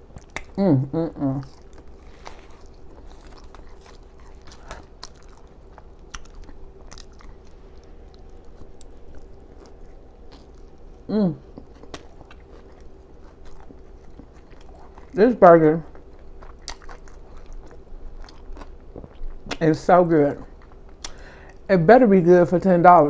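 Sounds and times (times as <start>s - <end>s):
mouth chewing and lip-smacking: 0.0s - 21.7s.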